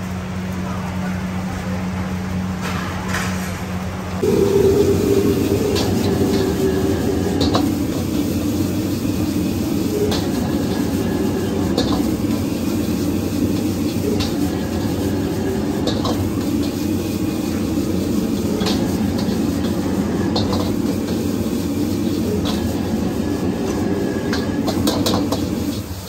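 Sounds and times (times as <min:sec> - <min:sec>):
low rumbling roar: 0:01.1 - 0:26.0.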